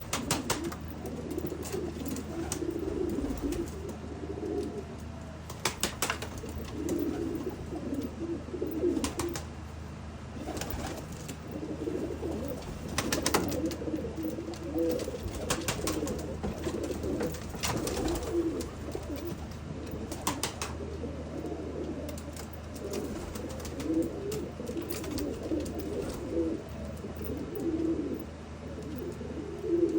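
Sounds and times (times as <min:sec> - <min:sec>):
pigeons cooing: 0:00.0 - 0:29.9.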